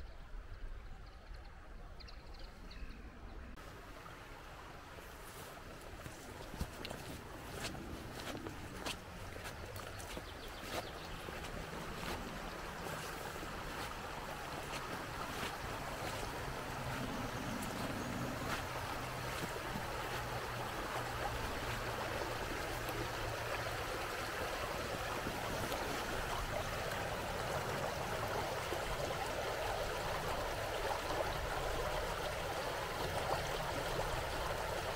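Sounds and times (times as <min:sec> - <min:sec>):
river water rushing over stones: 0:03.6 - 0:34.9.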